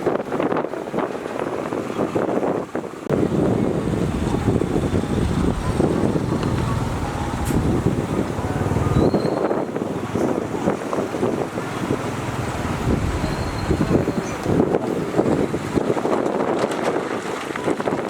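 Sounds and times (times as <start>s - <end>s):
wind buffeting microphone: 0.0s - 18.0s
heavy machinery rumbling: 3.1s - 18.0s.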